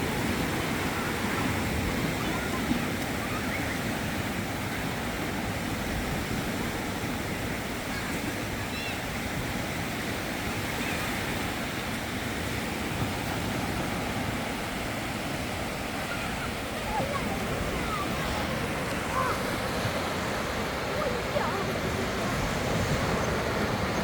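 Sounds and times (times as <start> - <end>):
sea surf washing onto sand: 0.0 - 24.0.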